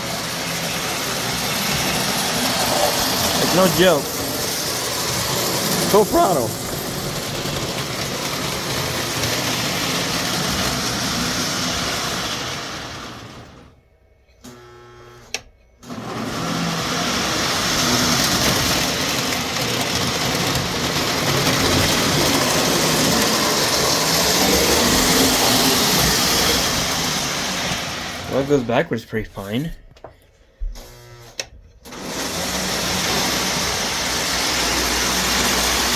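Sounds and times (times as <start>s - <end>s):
model locomotive motor and wheels: 0.0s - 13.8s, 14.4s - 28.8s, 30.8s - 35.9s.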